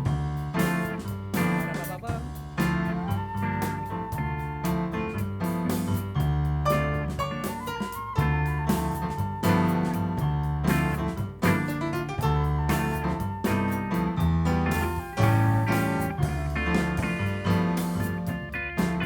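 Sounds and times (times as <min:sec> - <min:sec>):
bass line: 0:00.0 - 0:19.0
electric piano chords: 0:00.0 - 0:19.0.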